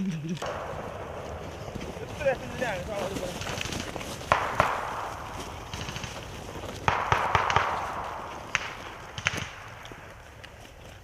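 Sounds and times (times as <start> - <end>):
gunshots echoing through woodland: 0.4 - 10.9.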